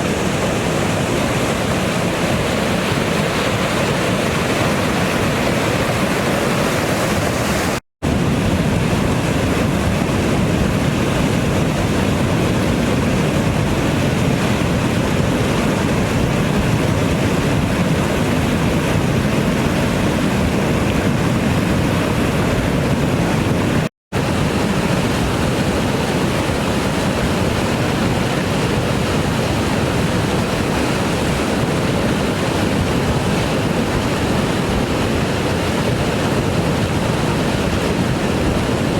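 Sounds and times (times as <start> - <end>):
flooded river roaring: 0.0 - 38.9.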